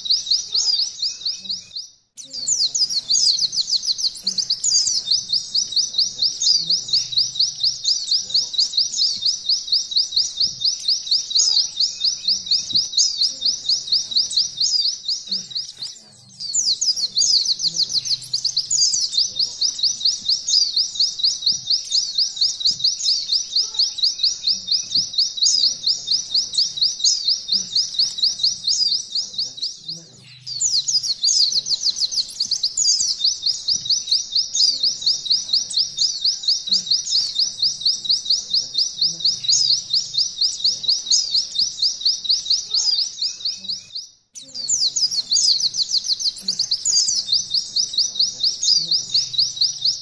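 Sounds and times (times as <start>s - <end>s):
canary singing rapid trill: 0.0s - 50.0s.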